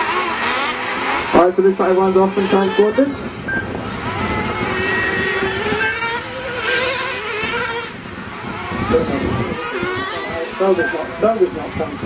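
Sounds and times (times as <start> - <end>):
rc car engines buzzing at high revs: 0.0 - 12.0.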